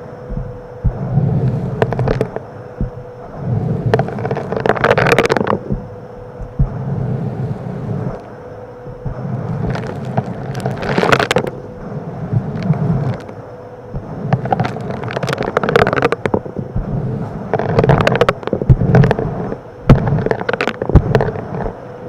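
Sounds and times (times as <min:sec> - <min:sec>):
vacuum cleaner motor hum: 0:00.0 - 0:22.0
stones clattering through hose: 0:00.3 - 0:06.7, 0:09.0 - 0:11.6, 0:12.4 - 0:21.8.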